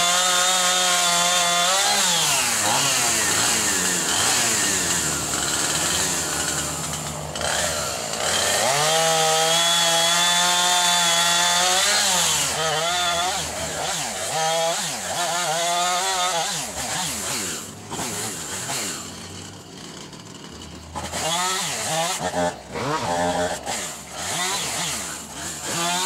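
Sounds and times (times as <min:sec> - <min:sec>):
chainsaw at full throttle: 0:00.0 - 0:26.0.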